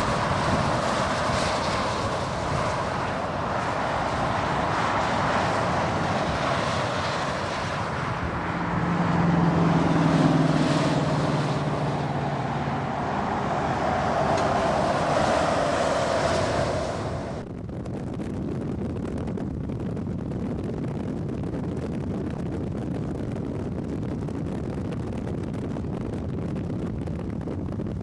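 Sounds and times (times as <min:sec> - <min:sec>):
wind blowing on microphone: 0:00.0 - 0:28.0.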